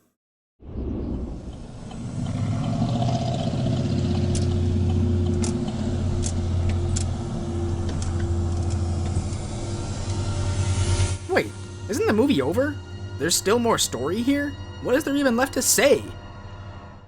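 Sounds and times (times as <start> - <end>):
vehicle engine humming: 1.4 - 16.0.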